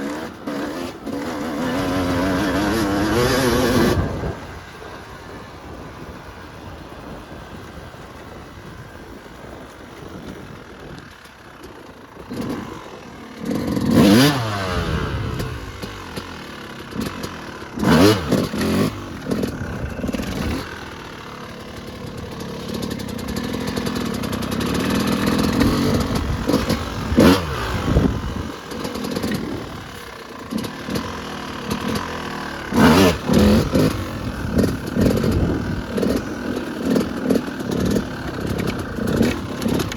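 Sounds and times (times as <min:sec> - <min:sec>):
dirt bike engine revving: 0:00.0 - 0:06.2, 0:10.2 - 0:39.9.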